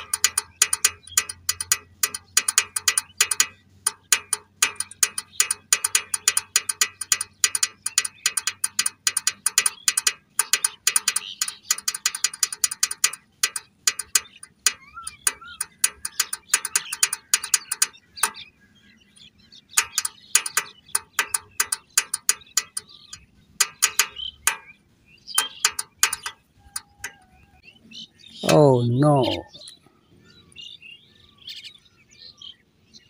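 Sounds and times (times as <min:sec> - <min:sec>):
rapid ratchet-like mechanical clicking: 0:00.0 - 0:18.5, 0:19.1 - 0:27.2.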